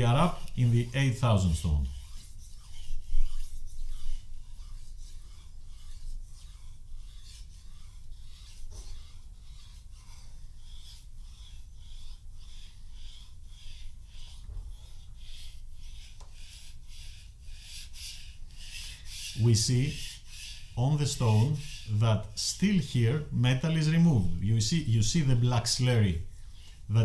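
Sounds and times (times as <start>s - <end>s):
knife rasping on whetstone: 0.0s - 26.9s.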